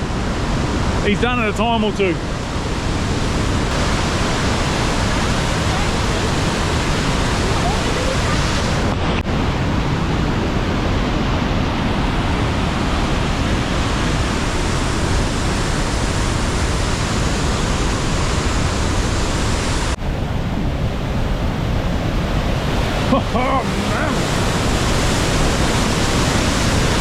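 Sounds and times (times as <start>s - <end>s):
waterfall rushing: 0.0s - 20.0s, 22.2s - 27.0s.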